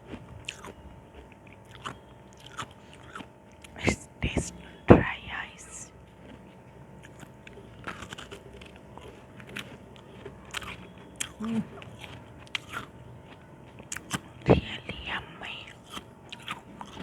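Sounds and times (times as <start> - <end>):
ice crunching between teeth: 0.0 - 3.9, 6.2 - 17.0.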